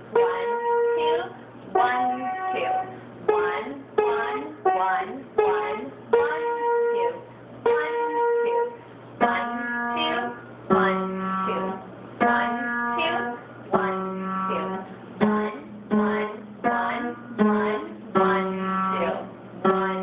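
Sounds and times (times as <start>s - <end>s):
upright piano single notes: 0.0s - 20.0s.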